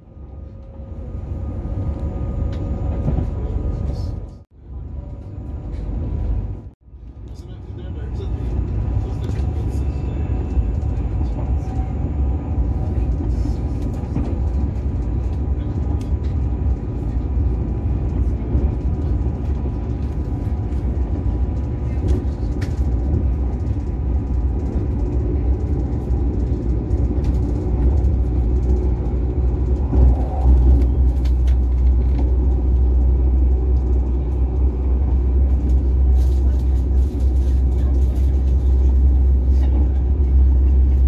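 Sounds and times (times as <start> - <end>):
train rumbling inside carriage: 0.0 - 41.0.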